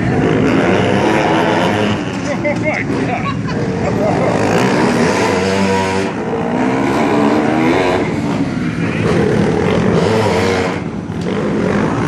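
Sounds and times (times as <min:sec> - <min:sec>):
go-kart engines revving: 0:00.0 - 0:12.0.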